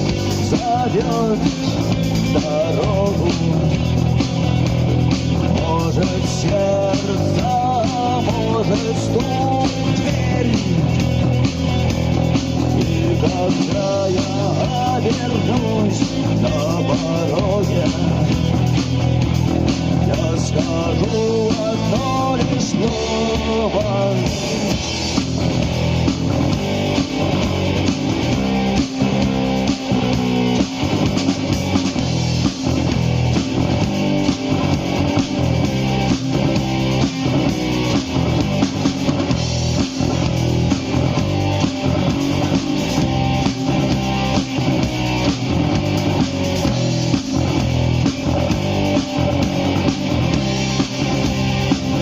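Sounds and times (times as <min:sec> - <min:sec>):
bass guitar: 0:00.0 - 0:52.0
drum kit beat: 0:00.0 - 0:52.0
electric guitar: 0:00.0 - 0:52.0.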